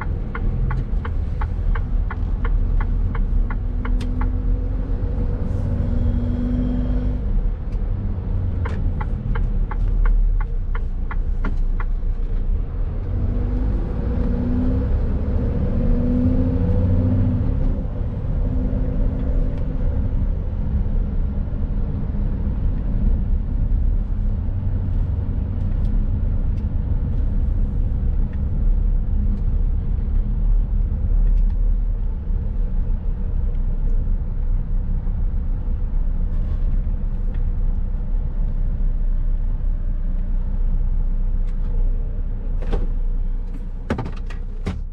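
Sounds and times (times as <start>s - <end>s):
truck engine and road rumble: 0.0s - 44.9s.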